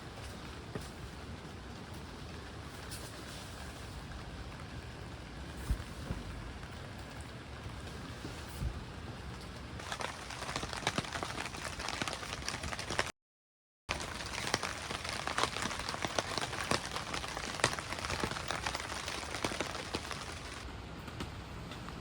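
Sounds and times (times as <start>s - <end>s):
heavy raindrops striking: 0.0s - 13.1s, 13.9s - 21.2s
steady rain falling: 0.0s - 13.1s, 13.9s - 22.0s.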